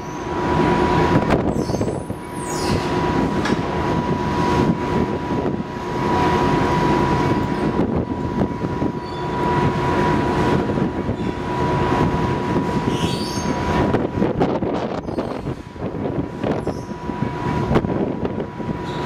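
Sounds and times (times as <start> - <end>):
ship engine rumble: 0.0 - 19.0.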